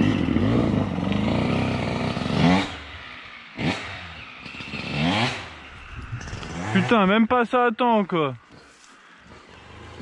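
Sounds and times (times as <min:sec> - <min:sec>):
dirt bike engine revving: 0:00.0 - 0:07.4, 0:09.2 - 0:10.0.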